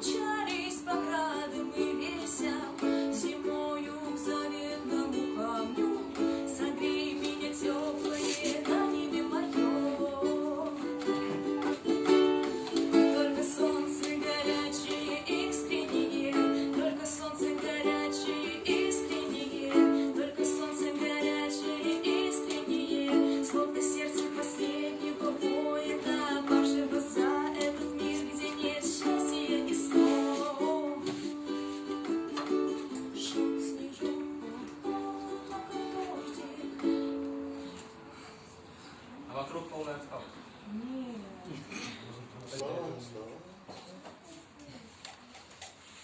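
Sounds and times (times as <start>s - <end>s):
ukulele strumming chords: 0.0s - 38.1s.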